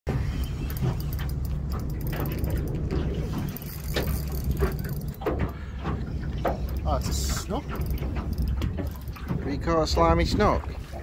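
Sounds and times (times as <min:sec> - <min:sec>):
steady low hum: 0:00.1 - 0:09.7.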